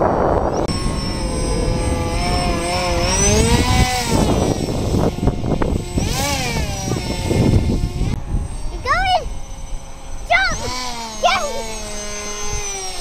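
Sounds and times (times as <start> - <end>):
model plane electric motor whine: 0.0 - 13.0.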